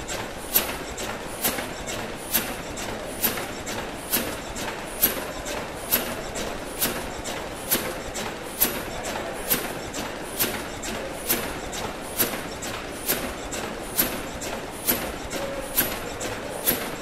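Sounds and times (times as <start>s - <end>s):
steam engine mechanical click: 0.0s - 17.0s.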